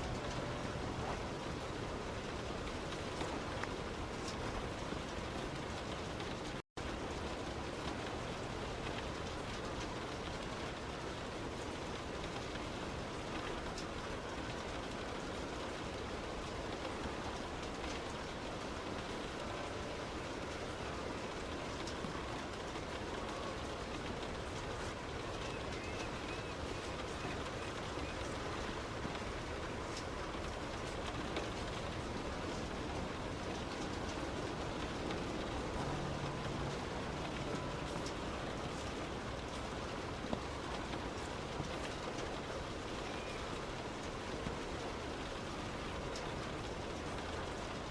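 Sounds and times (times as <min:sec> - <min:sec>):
heavy rain on a car: 0:00.0 - 0:47.9
raindrop ticks: 0:00.0 - 0:47.9
tyres hissing on wet road: 0:00.0 - 0:47.9.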